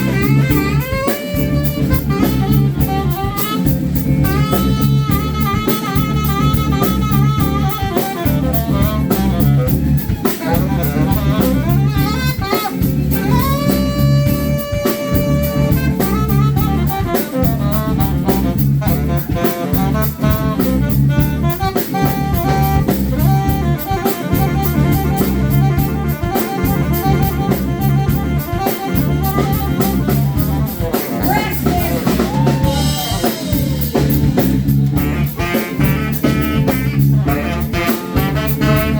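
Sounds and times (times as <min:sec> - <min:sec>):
brass horns playing: 0:00.0 - 0:38.9
driving drum beat: 0:00.0 - 0:38.9.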